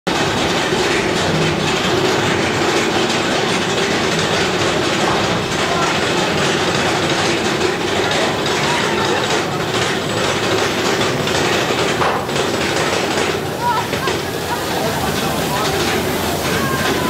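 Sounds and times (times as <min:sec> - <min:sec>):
roller coaster wheels rumbling on rails: 0:00.1 - 0:17.0.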